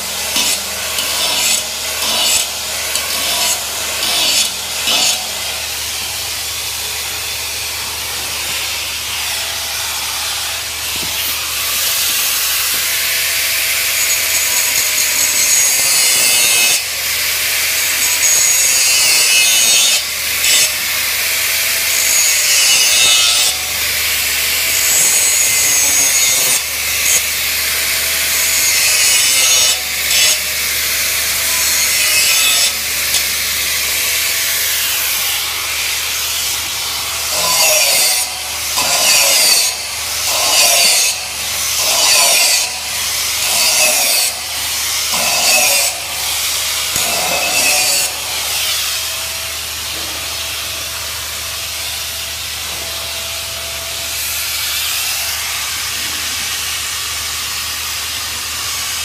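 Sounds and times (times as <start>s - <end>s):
welding arc crackling hiss: 0.0s - 59.0s.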